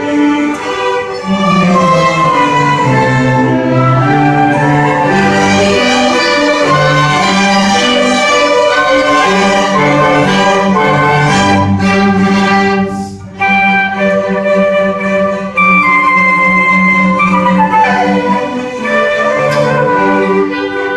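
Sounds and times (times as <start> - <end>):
orchestra playing classical music: 0.0 - 20.9.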